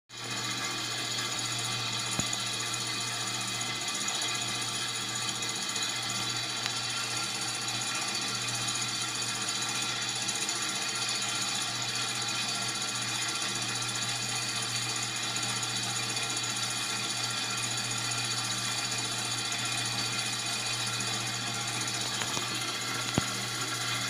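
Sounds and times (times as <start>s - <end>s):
small engine mechanical whirr: 0.2s - 24.0s.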